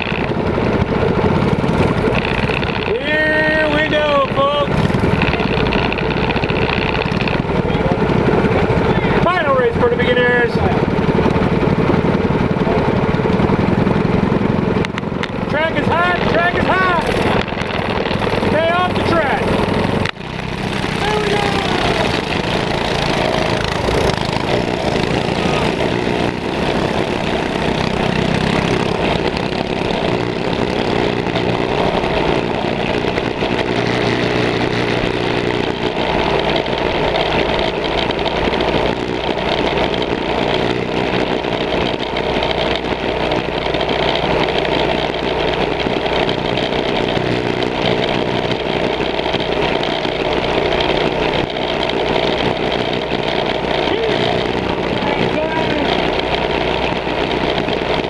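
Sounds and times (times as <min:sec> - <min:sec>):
mini bike engines revving: 0:00.0 - 0:58.0.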